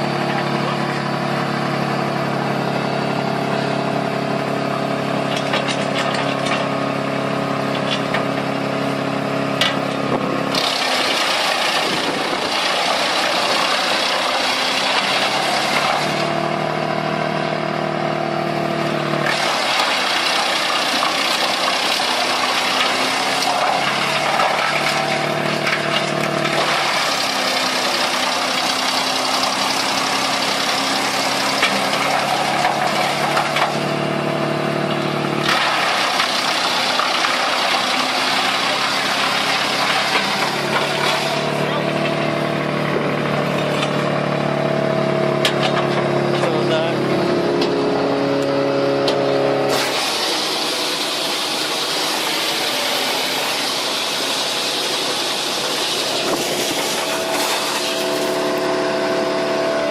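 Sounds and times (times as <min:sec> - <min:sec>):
wood being ground in chipper: 0:00.0 - 0:59.9
wood chipper engine humming: 0:00.0 - 0:59.9.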